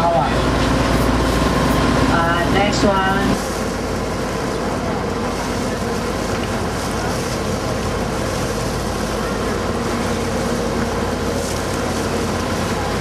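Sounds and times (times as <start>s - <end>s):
boat engine droning: 0.0s - 13.0s
water noise: 0.0s - 13.0s
wind: 0.0s - 13.0s.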